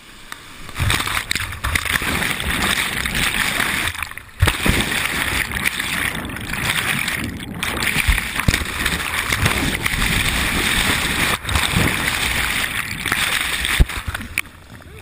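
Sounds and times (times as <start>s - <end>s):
whitewater rapids rushing and splashing: 0.7s - 15.0s.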